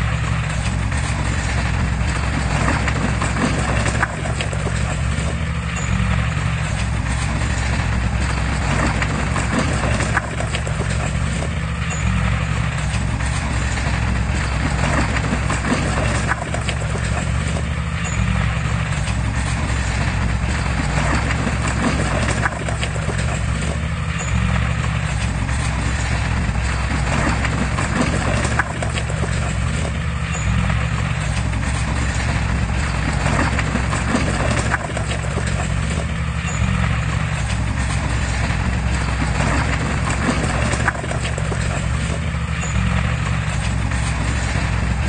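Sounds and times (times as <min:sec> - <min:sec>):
bulldozer diesel engine running: 0:00.0 - 0:45.0
steel tracks clattering: 0:00.0 - 0:45.0.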